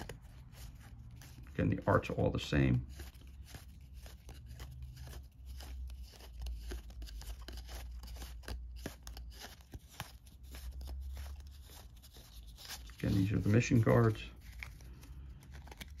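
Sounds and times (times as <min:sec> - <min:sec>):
cards sliding and clicking: 0:00.0 - 0:16.0.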